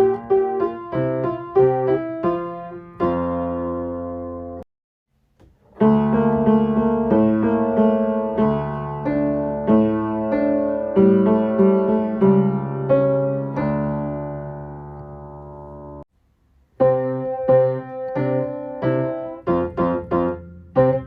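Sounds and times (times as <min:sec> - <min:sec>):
piano children's song: 0:00.0 - 0:04.7, 0:05.7 - 0:16.1, 0:16.8 - 0:21.0.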